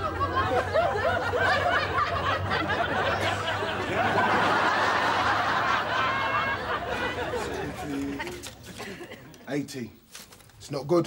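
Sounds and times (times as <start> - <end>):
audience laughing: 0.0 - 9.5.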